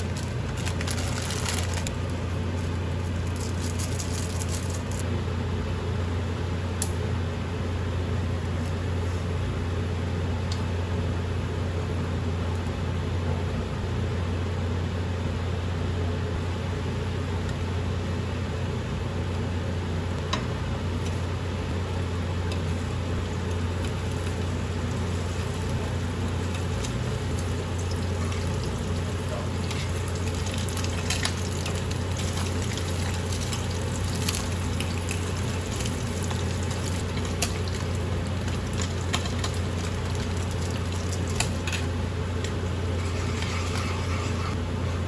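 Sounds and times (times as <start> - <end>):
appliance humming: 0.0 - 45.0.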